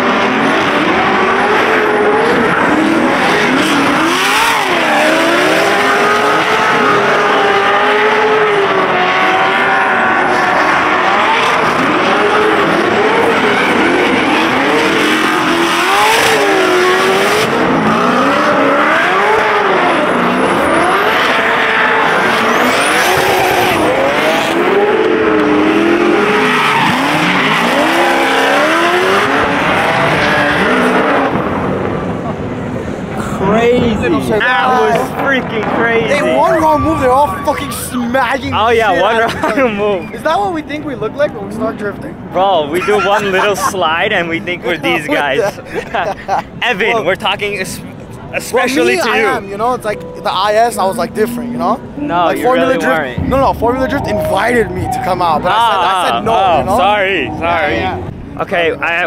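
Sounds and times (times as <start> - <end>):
tires squealing: 0.0 - 45.6, 46.6 - 59.0
car engines revving: 0.0 - 59.0.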